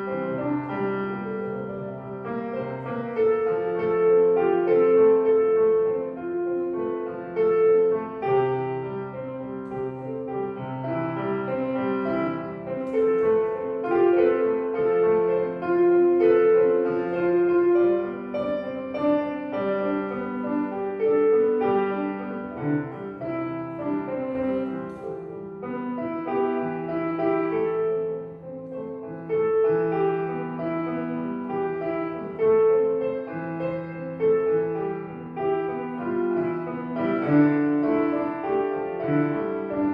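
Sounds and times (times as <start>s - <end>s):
slow piano melody: 0.0s - 39.9s.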